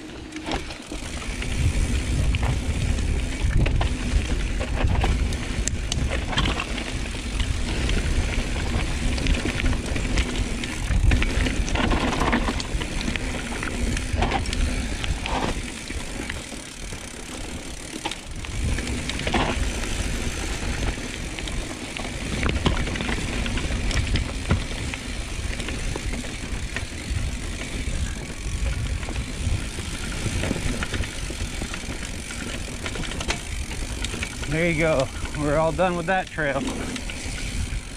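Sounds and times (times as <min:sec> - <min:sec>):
bike rattling over bumps: 0:00.0 - 0:37.9
tyres running over dirt: 0:00.0 - 0:37.9
wind rumble on microphone: 0:00.9 - 0:16.4, 0:18.3 - 0:35.5, 0:36.3 - 0:37.9.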